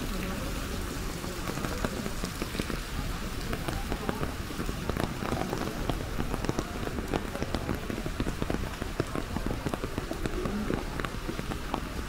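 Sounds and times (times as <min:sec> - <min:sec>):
raindrops tapping on an umbrella: 0:00.0 - 0:12.0
steady hiss of rain: 0:00.0 - 0:12.0.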